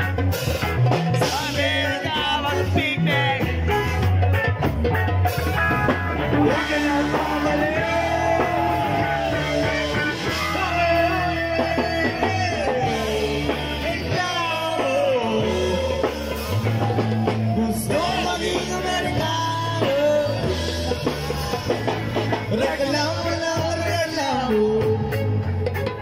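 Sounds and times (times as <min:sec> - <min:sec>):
bass line: 0:00.0 - 0:26.0
drums: 0:00.0 - 0:26.0
person singing: 0:01.1 - 0:04.3, 0:05.6 - 0:25.5.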